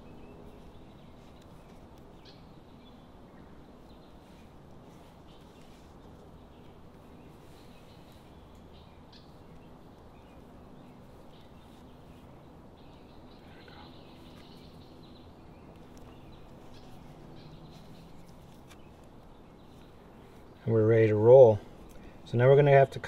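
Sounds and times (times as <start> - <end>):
distant birds chirping: 0.0 - 23.0
low steady background hum: 0.0 - 23.0.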